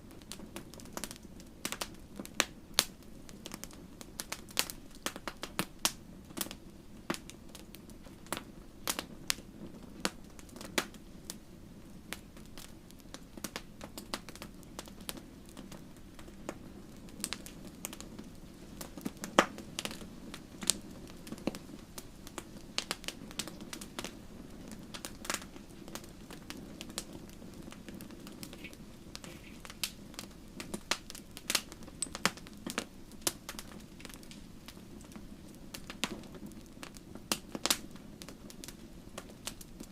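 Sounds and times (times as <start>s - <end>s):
flames rumbling: 0.0s - 39.9s
wood fire crackling and popping: 0.0s - 39.9s.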